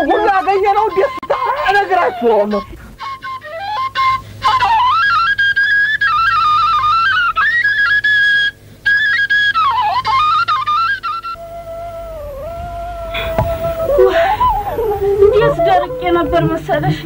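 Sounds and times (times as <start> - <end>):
solo flute melody: 0.0 - 16.7.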